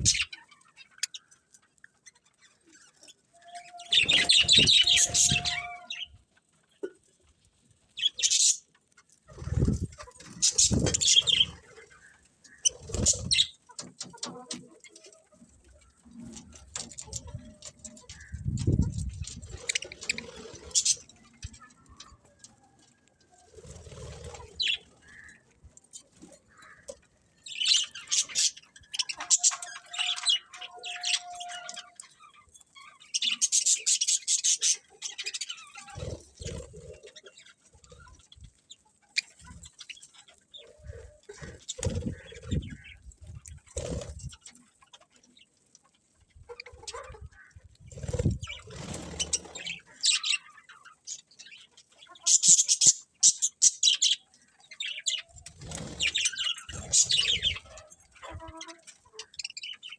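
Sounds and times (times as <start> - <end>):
budgerigars chirping and twittering: 0.0 - 59.9.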